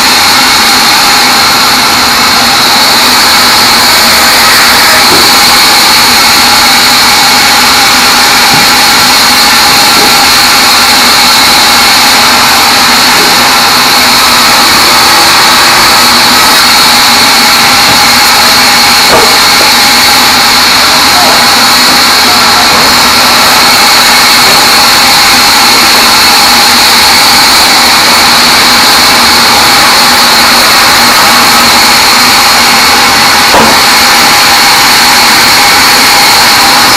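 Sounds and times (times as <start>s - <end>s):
band sawmill with high whine: 0.0s - 36.9s.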